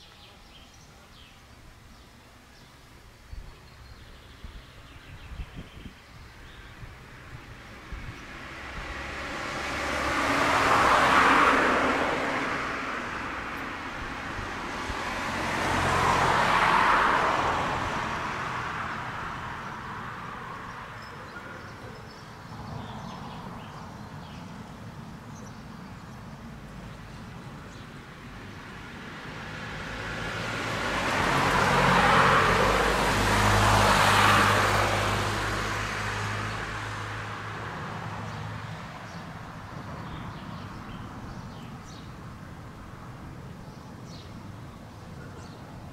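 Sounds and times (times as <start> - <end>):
cars driving past: 6.6 - 45.9.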